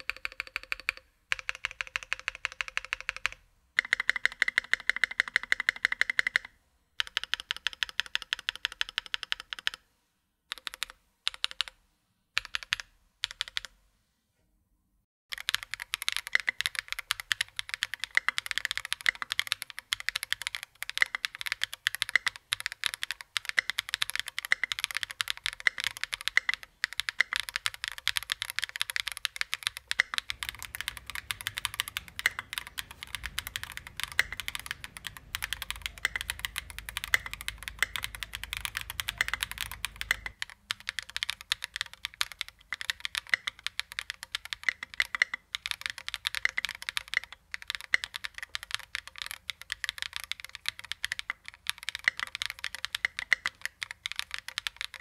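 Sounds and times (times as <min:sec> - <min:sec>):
fast keyboard typing: 0:00.0 - 0:09.8, 0:10.5 - 0:11.8, 0:12.4 - 0:13.7, 0:15.3 - 0:55.0.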